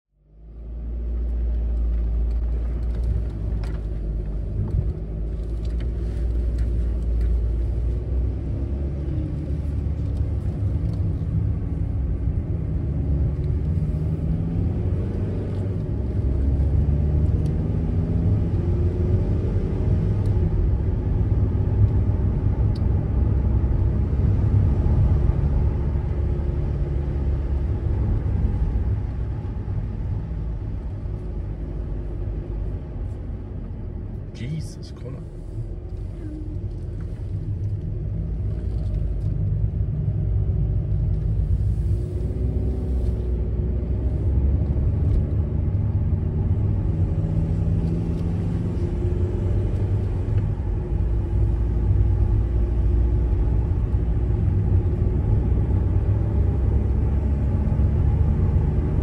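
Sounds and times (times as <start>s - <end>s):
van engine and tyre rumble: 0.1s - 59.0s.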